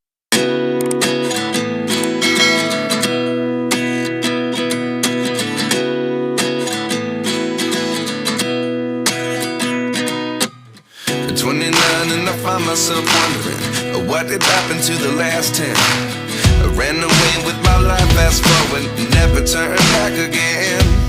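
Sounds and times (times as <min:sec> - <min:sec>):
plucked strings strummed: 0:00.4 - 0:21.0.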